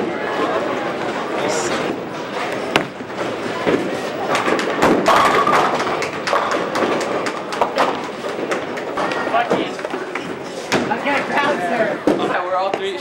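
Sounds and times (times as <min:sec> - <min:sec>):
rolling balls and falling pins: 0:00.4 - 0:13.0.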